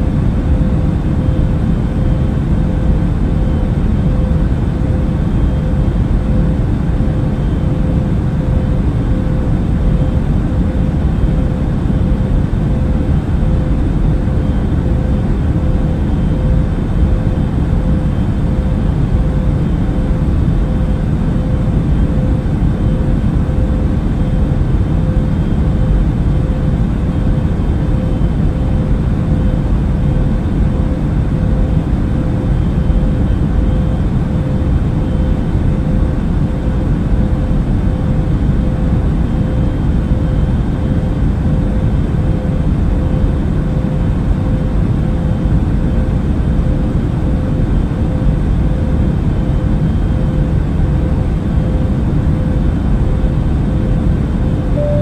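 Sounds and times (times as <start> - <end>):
airplane cabin rumble: 0.0 - 55.0
faint constant hum: 0.0 - 55.0.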